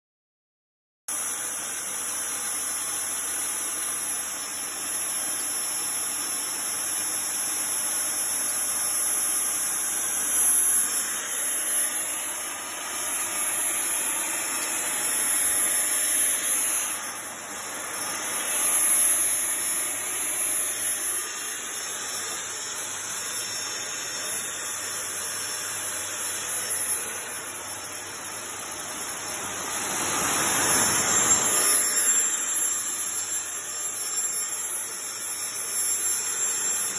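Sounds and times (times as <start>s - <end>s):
fogger blower whining: 1.1s - 36.9s.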